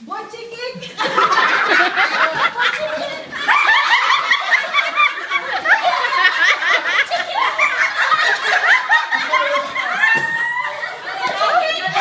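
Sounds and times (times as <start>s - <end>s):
women laughing: 0.8s - 12.0s.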